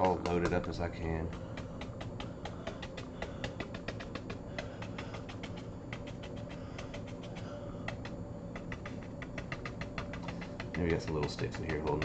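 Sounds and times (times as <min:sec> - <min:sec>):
brush tapping on canvas: 0:00.0 - 0:12.0.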